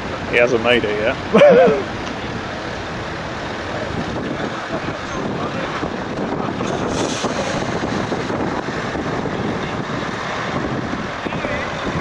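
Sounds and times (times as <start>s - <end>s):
truck diesel engine rumble: 0.0s - 12.0s
tyres on the road: 0.0s - 12.0s
wind buffeting the microphone: 1.9s - 12.0s.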